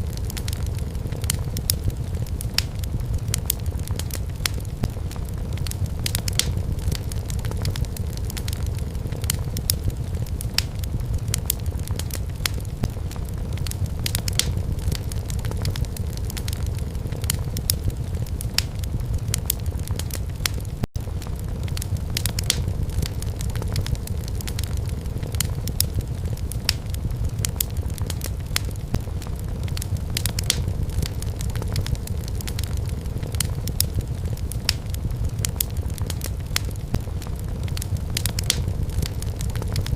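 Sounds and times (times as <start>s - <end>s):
firewood crackling and popping: 0.0s - 39.9s
low fire rumble: 0.0s - 39.9s.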